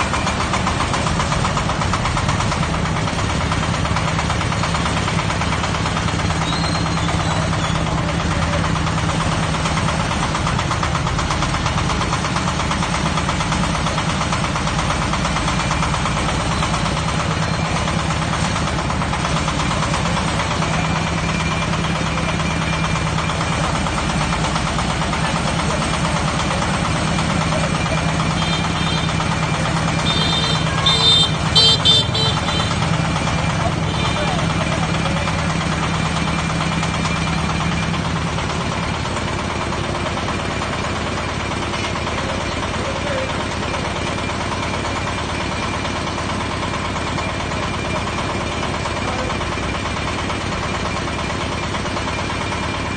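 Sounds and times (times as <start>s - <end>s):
drilling rig engine running: 0.0s - 52.9s.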